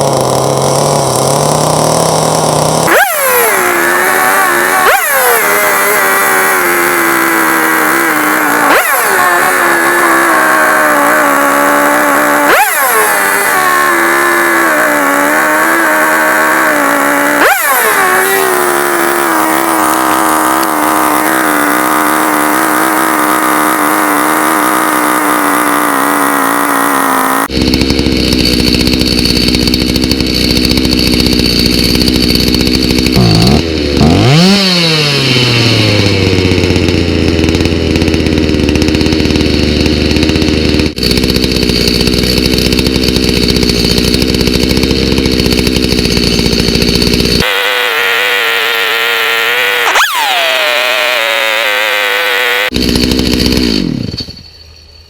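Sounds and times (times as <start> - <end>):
chainsaw engine revving and idling: 0.0 - 54.4.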